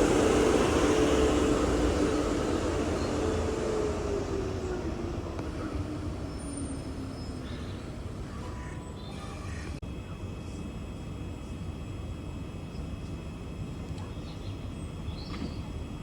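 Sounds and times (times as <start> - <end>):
passenger train moving: 0.0 - 16.0.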